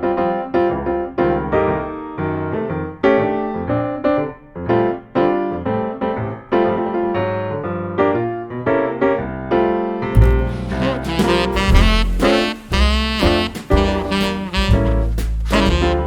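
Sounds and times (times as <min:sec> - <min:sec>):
jazz piano chords: 0:00.0 - 0:16.0.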